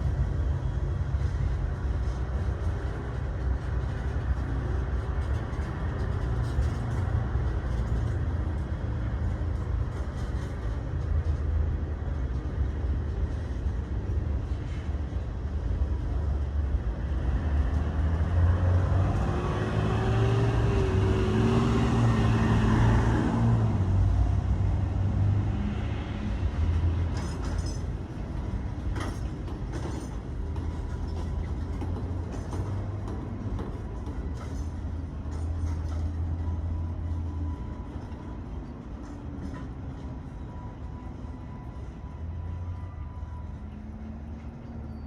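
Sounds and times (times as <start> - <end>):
train rumbling to a stop: 0.0 - 45.0
train whine: 0.0 - 45.0.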